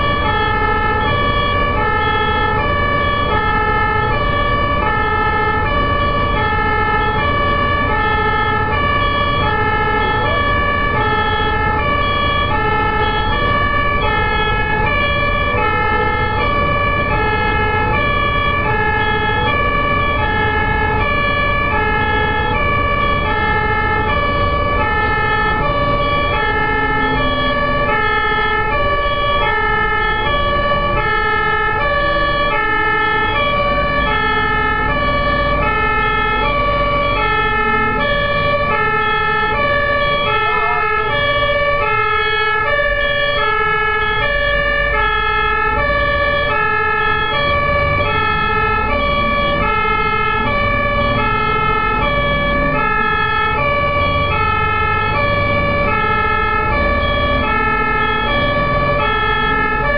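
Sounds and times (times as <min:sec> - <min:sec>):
truck engine and road rumble: 0:00.0 - 0:59.9
two-tone siren: 0:00.0 - 0:59.9.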